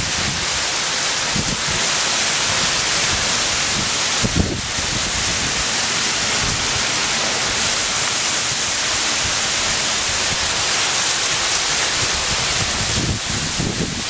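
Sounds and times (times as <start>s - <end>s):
hail and rain pouring down: 0.0s - 14.0s.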